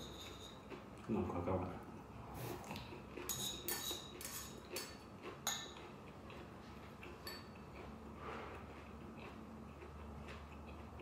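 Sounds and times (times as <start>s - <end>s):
utensils clinking against a bowl: 0.0s - 1.5s, 2.8s - 11.0s
small eating sounds: 0.0s - 11.0s.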